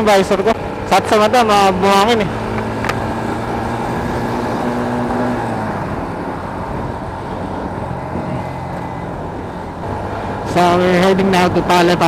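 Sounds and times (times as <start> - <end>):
motorcycle engine running: 0.0 - 11.9
wind and road noise: 0.0 - 12.0.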